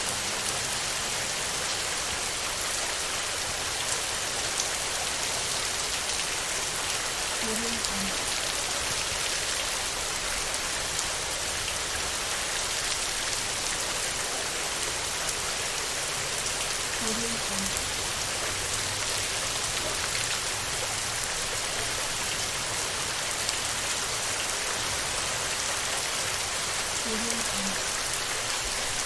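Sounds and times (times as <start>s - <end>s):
heavy rain on a tin roof: 0.0s - 29.0s.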